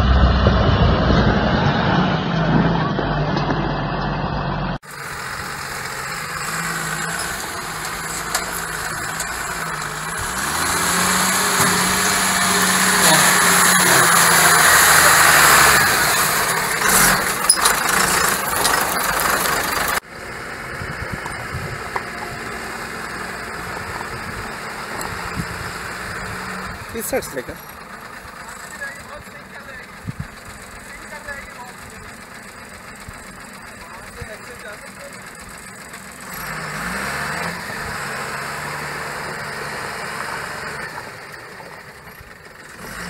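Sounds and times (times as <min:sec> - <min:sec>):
diesel truck engine under load: 0:00.0 - 0:43.0.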